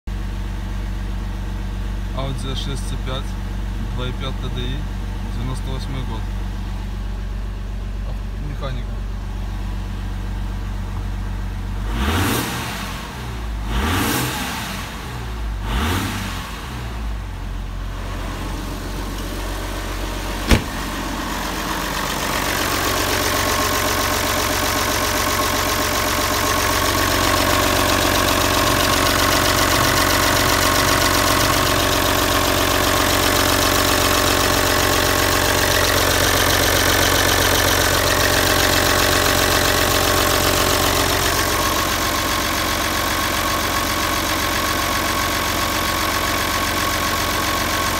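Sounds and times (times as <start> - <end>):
diesel engine revving and idling: 0.2 - 47.9.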